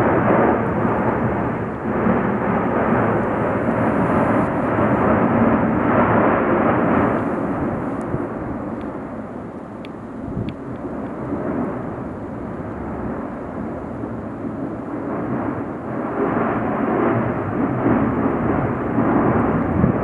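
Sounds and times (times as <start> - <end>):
volcano roaring: 0.0 - 20.0.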